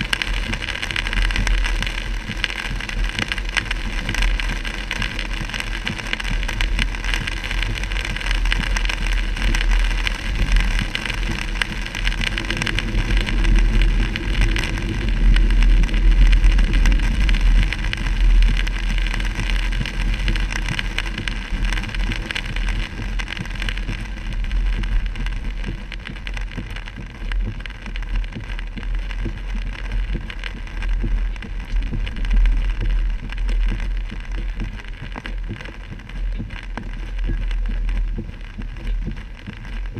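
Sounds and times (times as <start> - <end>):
car rumble: 0.0 - 39.9
heavy rain on car roof: 0.0 - 39.9
tyres hissing on wet road: 0.0 - 39.9.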